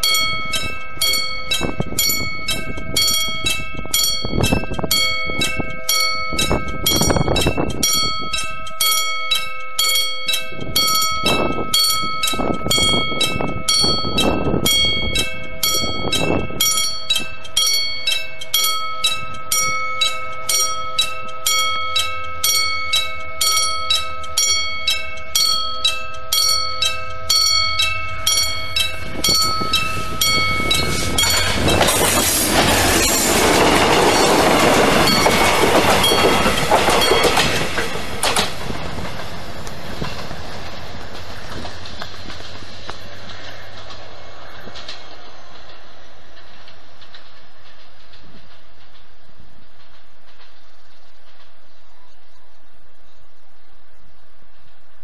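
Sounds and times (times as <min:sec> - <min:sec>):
level-crossing warning bell ringing: 0:00.0 - 0:44.7
diesel train passing: 0:00.0 - 0:55.0.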